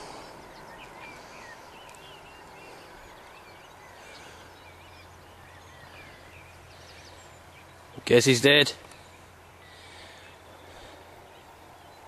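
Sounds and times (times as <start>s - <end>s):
faint outdoor hiss: 0.0s - 12.0s
low steady hum: 0.0s - 12.0s
songbirds chirping and warbling: 0.0s - 12.0s.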